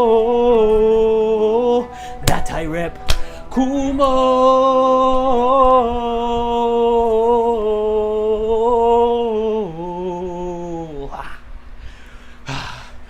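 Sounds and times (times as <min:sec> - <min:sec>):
man singing a long note: 0:00.0 - 0:11.5.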